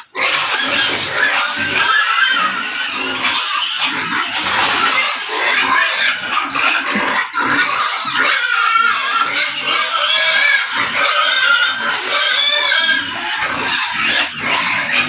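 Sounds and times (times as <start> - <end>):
pigs grunting: 0.0 - 15.0
pigs squealing: 0.0 - 15.0.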